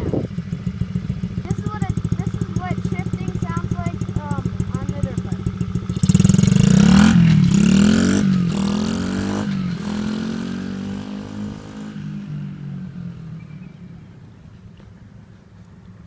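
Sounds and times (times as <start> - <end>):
dirt bike engine revving: 0.0 - 13.7.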